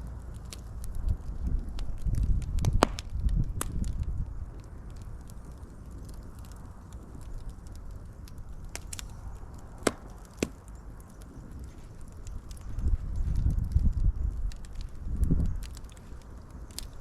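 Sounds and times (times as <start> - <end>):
fire crackles and pops: 0.0 - 17.0
wood fire rumble: 0.0 - 17.0.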